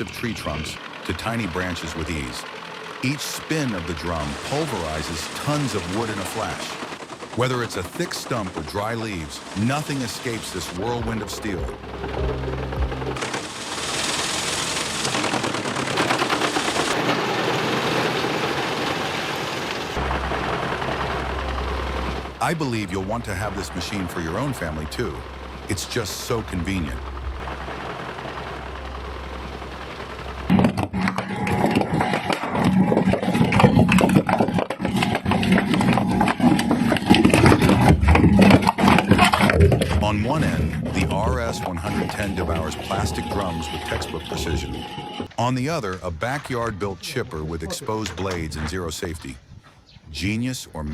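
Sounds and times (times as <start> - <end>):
wood chipper shredding wood: 0.0 - 45.4.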